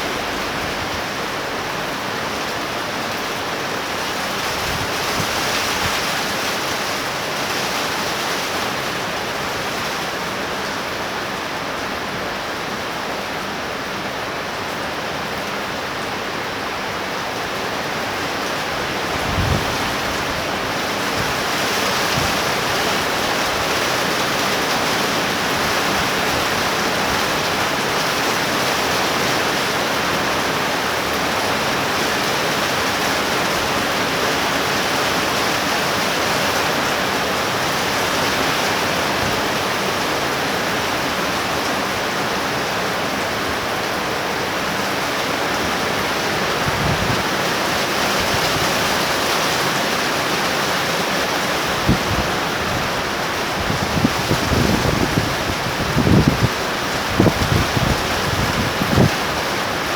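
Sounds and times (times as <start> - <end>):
torrential rain pouring: 0.0 - 59.9.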